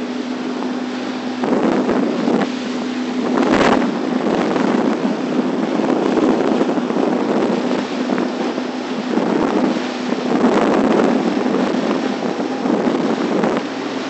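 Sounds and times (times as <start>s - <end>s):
boat motor hum: 0.0s - 14.0s
wind buffeting microphone: 0.0s - 14.0s.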